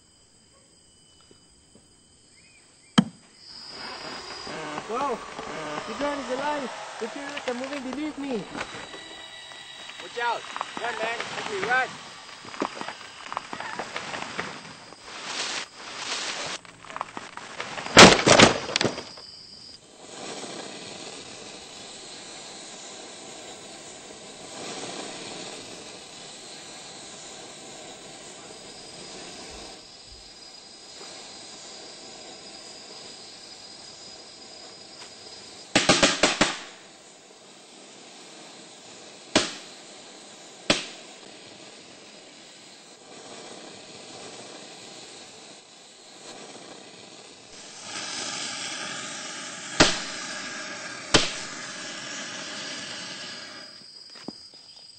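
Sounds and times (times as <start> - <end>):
steady hiss: 0.0 - 54.9.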